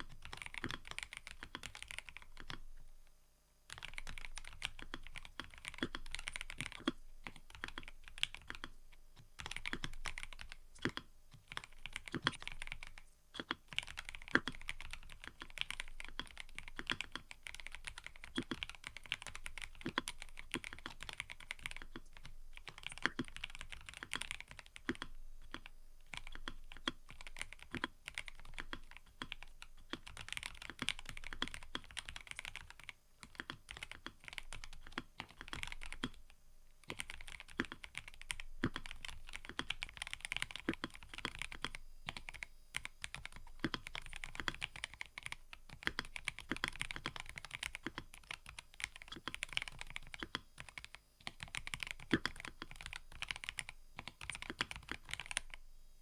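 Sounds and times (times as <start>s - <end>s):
fast typing on mechanical keyboard: 0.0s - 2.6s, 3.7s - 36.2s, 36.8s - 55.6s.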